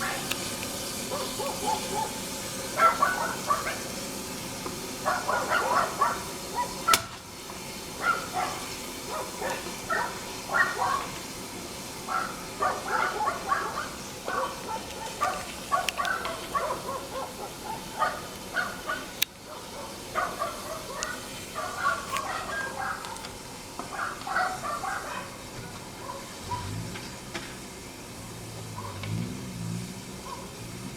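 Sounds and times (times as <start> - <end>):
dogs barking: 0.0 - 7.2, 7.8 - 26.9, 28.7 - 29.2, 30.2 - 30.7.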